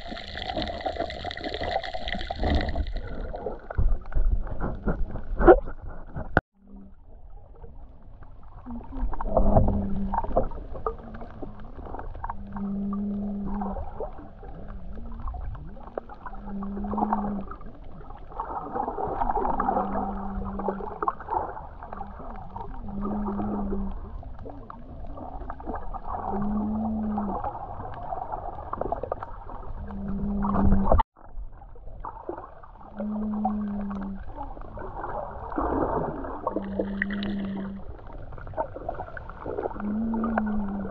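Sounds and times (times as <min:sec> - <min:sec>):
water gurgling and sloshing: 0:00.0 - 0:40.9.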